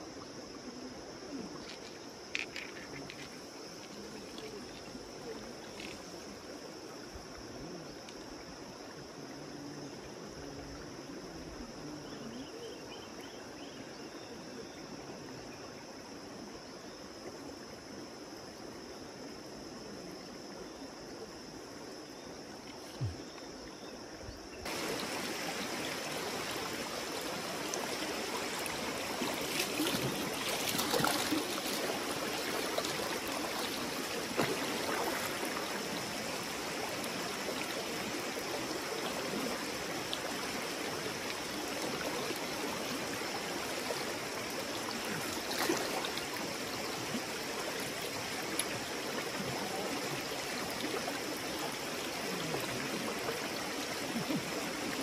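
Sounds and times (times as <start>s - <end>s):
river water running over stones: 0.0s - 11.9s, 19.3s - 55.0s.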